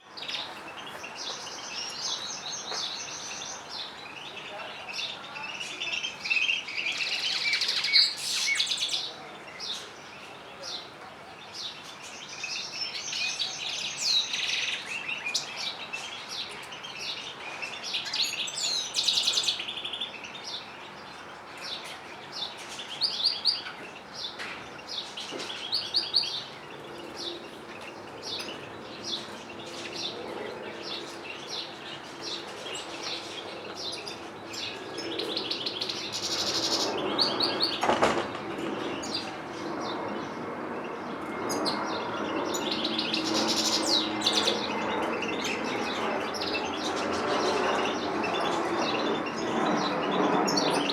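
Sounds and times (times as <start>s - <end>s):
songbirds twittering and trilling: 0.0s - 50.9s.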